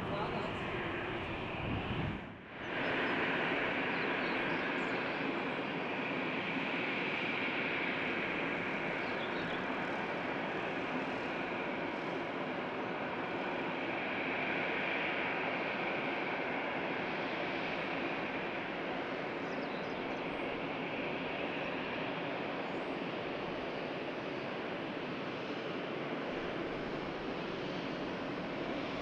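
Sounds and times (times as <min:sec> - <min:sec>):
jet engines rushing: 0:00.0 - 0:29.0.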